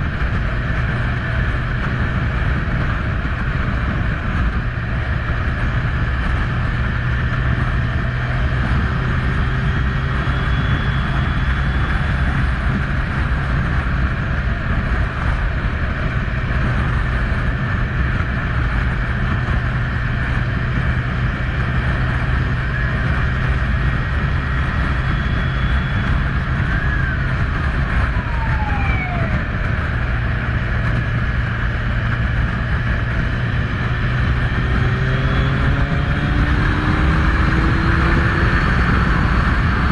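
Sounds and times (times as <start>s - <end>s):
continuous rushing noise: 0.0s - 39.9s
motorcycle engine running: 0.0s - 39.9s.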